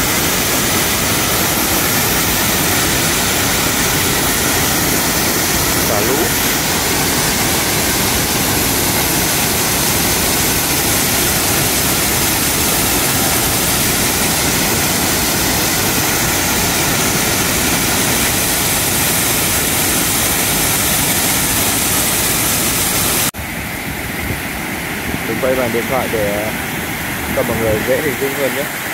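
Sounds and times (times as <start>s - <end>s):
water rushing through spillway: 0.0s - 28.9s.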